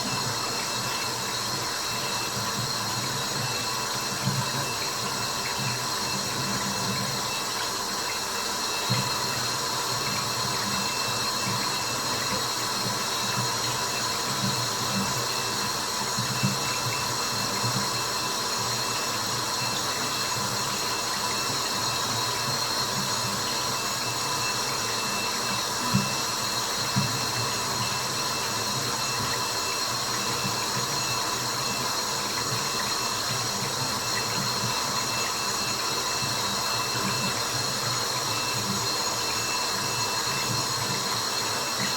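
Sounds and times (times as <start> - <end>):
running water: 0.0 - 41.9.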